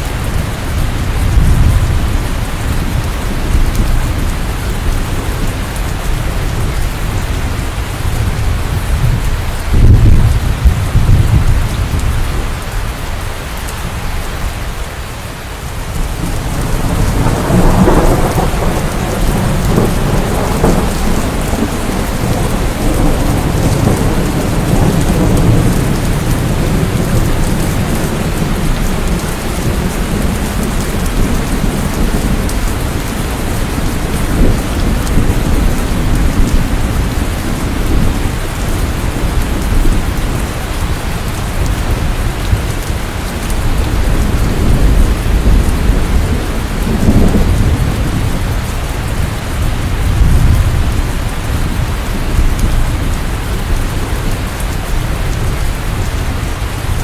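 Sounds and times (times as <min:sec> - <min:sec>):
thunder rumbling: 0:00.0 - 0:12.8, 0:15.8 - 0:57.0
steady rain: 0:00.0 - 0:57.0.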